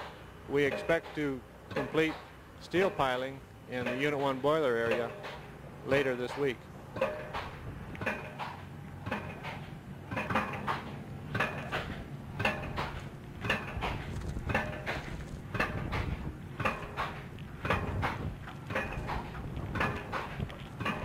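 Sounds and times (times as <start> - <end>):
pile hammer clanging: 0.6 - 21.0.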